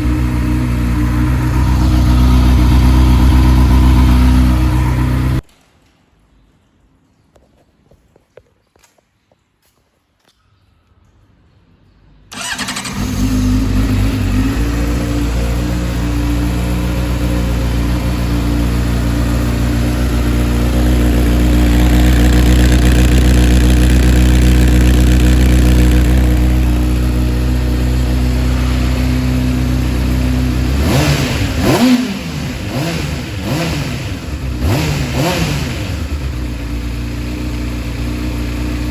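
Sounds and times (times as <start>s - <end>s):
motorcycle engine idling: 0.0s - 5.4s, 12.3s - 38.9s
throttle blips revving engine: 0.0s - 5.4s, 12.4s - 38.9s.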